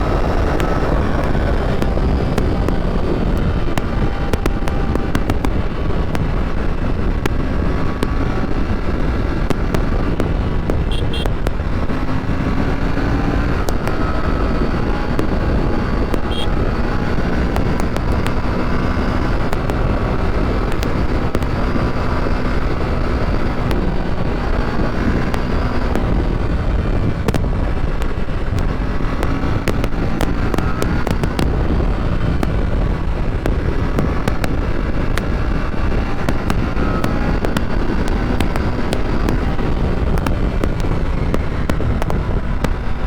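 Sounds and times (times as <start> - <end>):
motorcycle engine running: 0.0 - 43.0
wind rush on microphone: 0.0 - 43.0.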